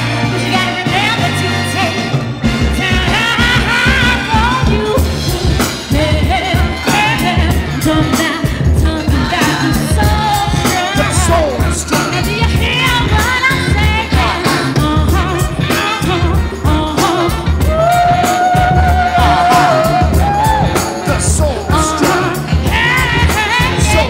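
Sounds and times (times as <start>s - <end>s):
woman singing into microphone: 0.1s - 21.1s, 21.7s - 24.0s
hip-hop beat with heavy bass: 2.8s - 24.0s.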